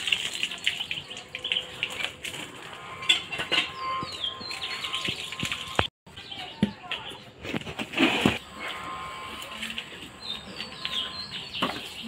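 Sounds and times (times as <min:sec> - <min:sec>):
birds chirping and calling: 0:00.1 - 0:12.0.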